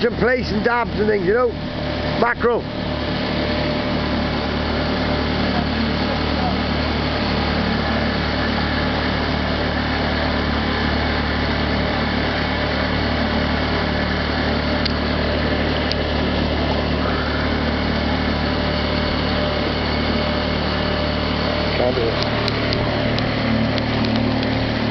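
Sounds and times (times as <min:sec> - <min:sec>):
outboard boat motor running: 0:00.0 - 0:24.9.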